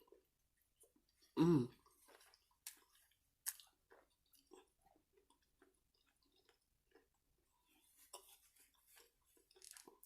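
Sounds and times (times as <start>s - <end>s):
close-up chewing: 0.0s - 10.0s.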